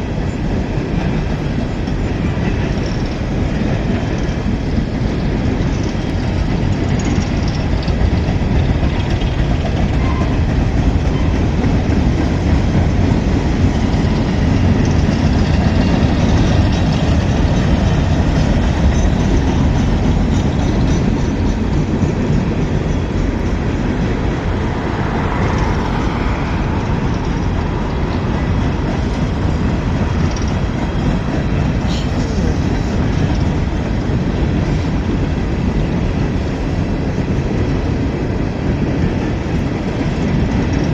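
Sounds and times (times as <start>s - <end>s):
train rumbling and rattling past: 0.0s - 40.9s.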